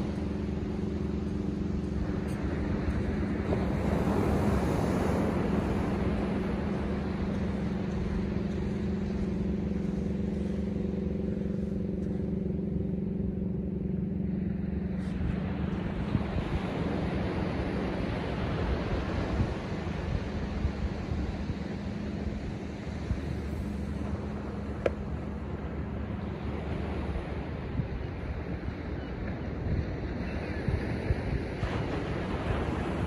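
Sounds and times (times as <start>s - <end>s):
low engine hum: 0.0s - 33.0s.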